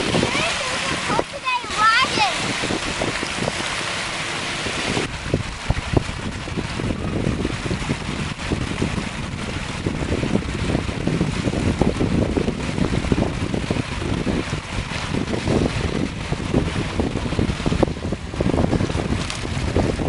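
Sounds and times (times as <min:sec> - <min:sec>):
small waves washing onto sand: 0:00.0 - 0:20.0
wind buffeting microphone: 0:00.0 - 0:20.0.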